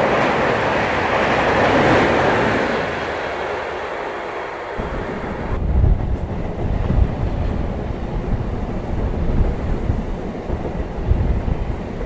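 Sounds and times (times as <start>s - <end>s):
passing train: 0.0s - 12.0s
train wheels rumbling on track: 0.0s - 12.0s.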